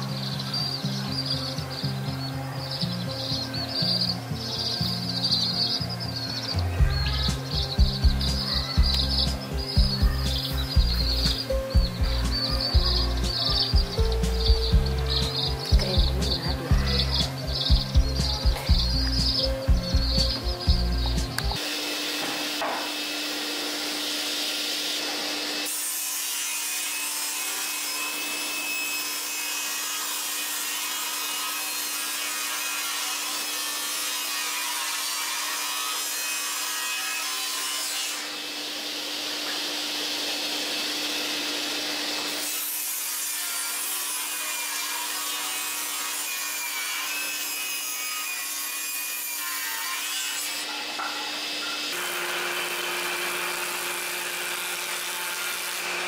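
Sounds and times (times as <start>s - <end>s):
panel saw cutting wood: 7.1s - 56.0s.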